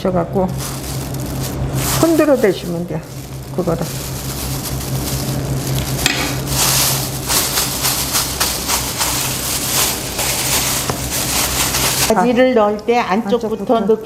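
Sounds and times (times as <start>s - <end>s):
steady low hum: 0.0s - 14.0s
plastic bag rustling: 0.3s - 12.4s.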